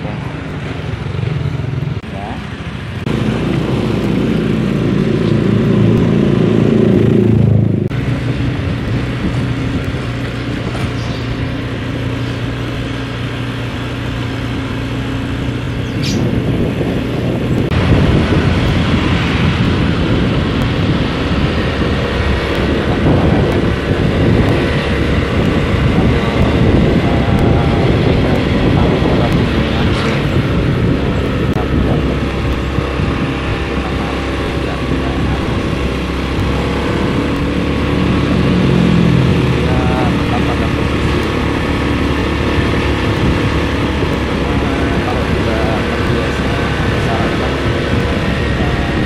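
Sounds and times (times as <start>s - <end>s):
motor scooter engine running: 0.0s - 49.0s
rushing noise: 0.0s - 49.0s.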